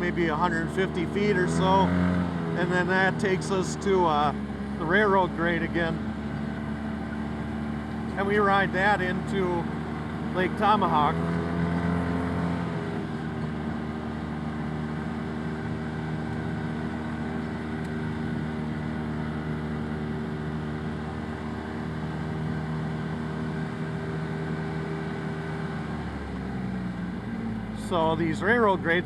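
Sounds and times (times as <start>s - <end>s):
utility vehicle engine droning: 0.0s - 29.0s.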